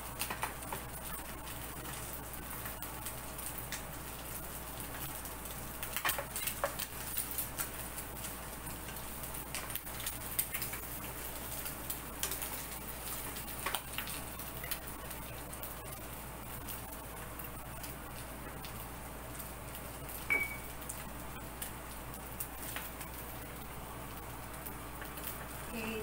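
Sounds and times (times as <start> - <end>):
egg sizzling in a pan: 0.0 - 26.0.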